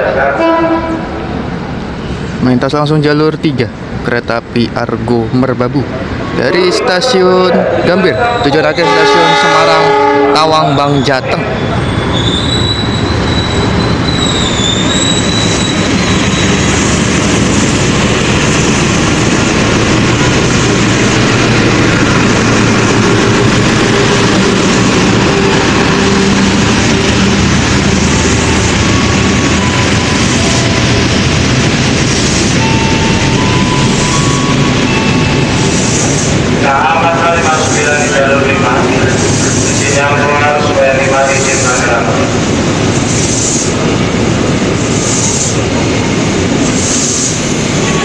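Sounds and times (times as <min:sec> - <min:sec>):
train passing at speed: 0:00.0 - 0:48.0.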